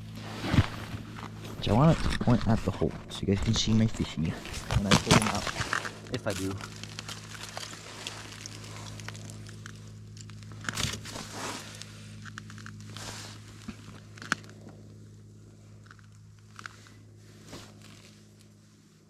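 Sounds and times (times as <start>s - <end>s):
crunching in snow: 0.0s - 14.7s, 15.7s - 18.8s
low hum: 0.0s - 19.0s.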